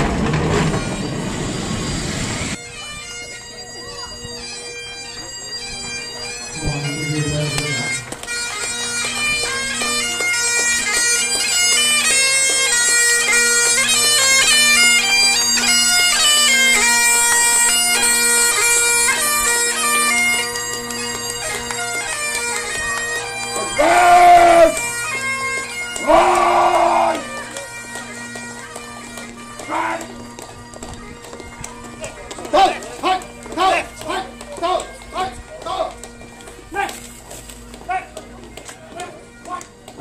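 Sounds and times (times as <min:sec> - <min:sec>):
bagpipes playing a march: 0:00.0 - 0:40.0.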